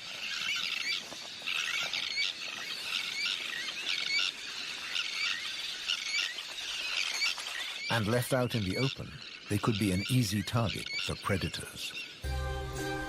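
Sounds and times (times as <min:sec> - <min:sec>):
terns calling: 0:00.0 - 0:13.0.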